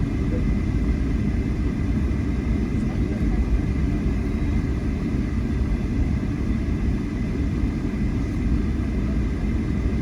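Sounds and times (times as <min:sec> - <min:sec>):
airliner rumbling: 0:00.0 - 0:10.0.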